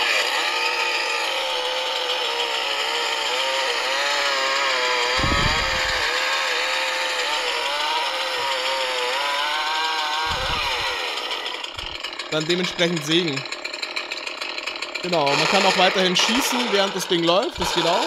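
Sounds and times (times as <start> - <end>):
chainsaw sound effect from speakers: 0.0 - 18.0.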